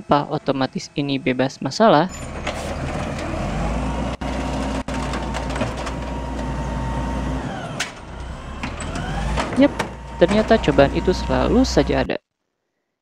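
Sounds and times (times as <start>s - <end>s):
hydraulic arm whine: 0.0s - 12.1s
garbage truck engine hum: 0.0s - 12.2s.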